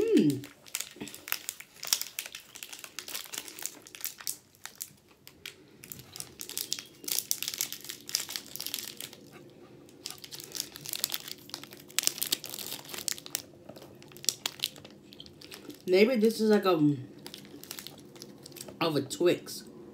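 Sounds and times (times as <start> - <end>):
plastic wrapper crinkling: 0.0 - 19.1.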